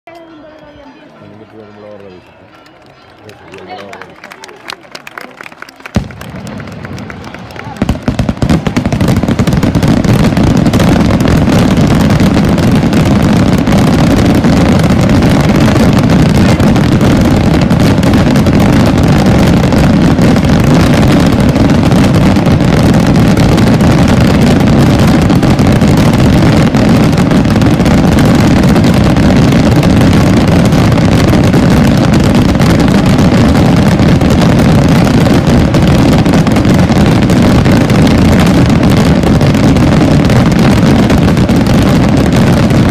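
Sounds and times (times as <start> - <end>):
firecrackers bursting: 3.3 - 42.9.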